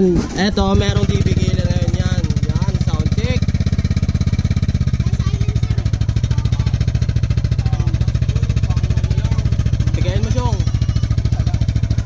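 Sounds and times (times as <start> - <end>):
scooter engine idling: 0.3 - 12.0.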